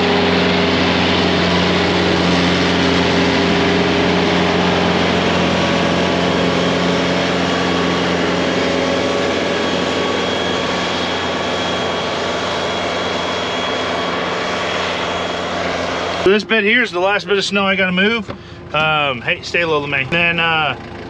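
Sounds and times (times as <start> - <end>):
faint high whine: 0.0 - 20.8
loader engine running: 0.0 - 21.0.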